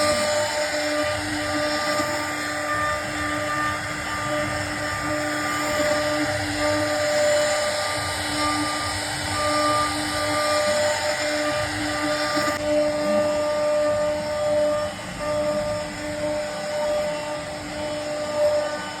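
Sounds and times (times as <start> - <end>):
bit cutting wood: 0.0 - 19.0
router spindle whining: 0.0 - 19.0.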